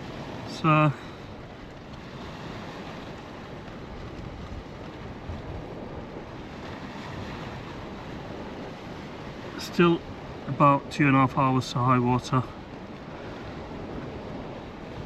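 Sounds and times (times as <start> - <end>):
sea washing: 0.0 - 15.0
wind buffeting microphone: 0.0 - 15.0.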